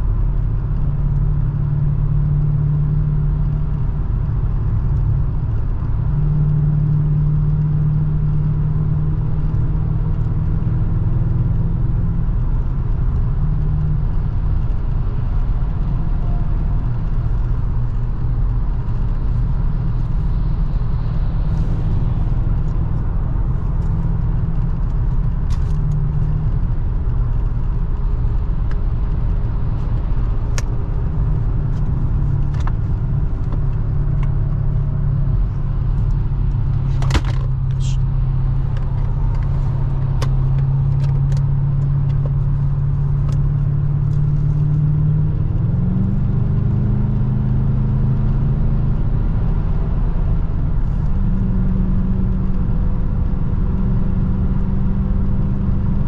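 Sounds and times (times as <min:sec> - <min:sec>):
car engine drone: 0:00.0 - 0:56.0
road and wind noise: 0:00.0 - 0:56.0.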